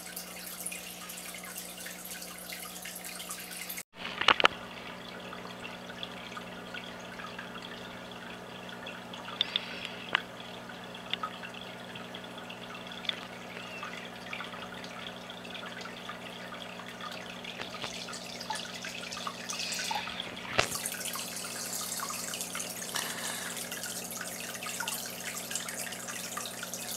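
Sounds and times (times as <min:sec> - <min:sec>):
pump hum: 0:00.0 - 0:26.9
water drips: 0:00.0 - 0:26.9
water trickling into aquarium: 0:00.0 - 0:26.9.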